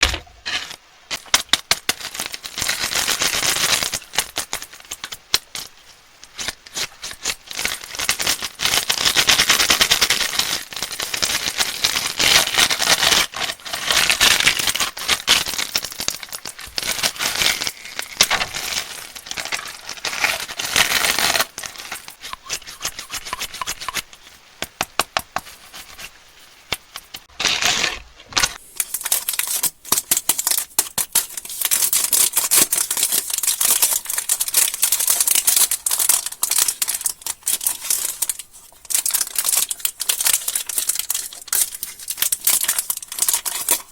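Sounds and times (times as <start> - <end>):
candy wrappers crackling: 0.6 - 24.3, 25.4 - 43.9.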